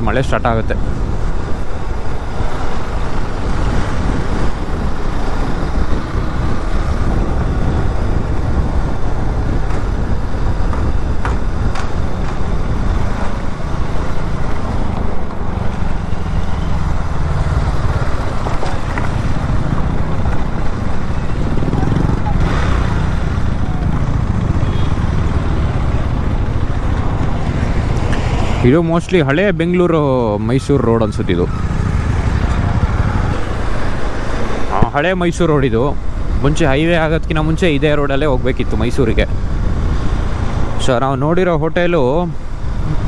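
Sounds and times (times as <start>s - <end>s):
highway road noise rumble: 0.0s - 43.0s.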